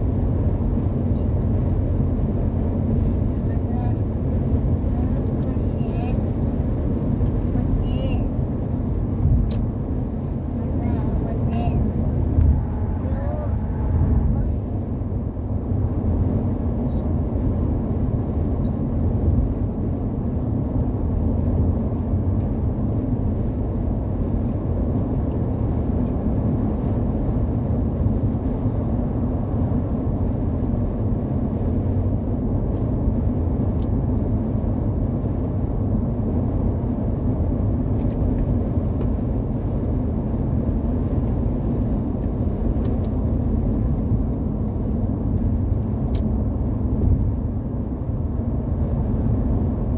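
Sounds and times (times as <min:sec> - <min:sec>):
truck engine and road rumble: 0:00.0 - 0:49.9.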